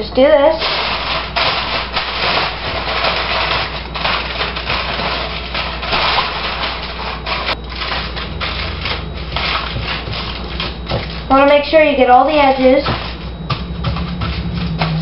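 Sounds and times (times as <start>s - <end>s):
aluminum foil crinkling: 0.5s - 15.0s.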